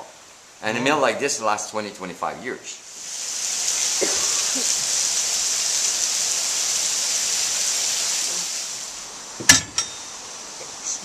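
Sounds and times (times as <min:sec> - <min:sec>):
water falling and spilling: 0:00.0 - 0:11.0.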